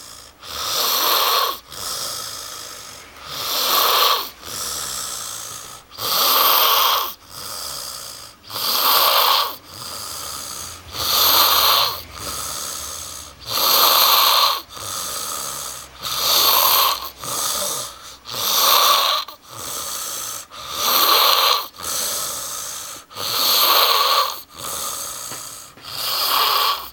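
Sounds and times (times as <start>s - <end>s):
man snoring heavily: 0.0s - 26.9s.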